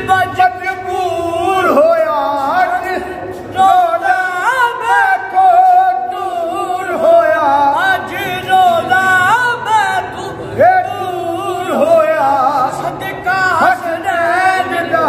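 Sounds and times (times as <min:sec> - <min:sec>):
young man singing unaccompanied: 0:00.0 - 0:15.0.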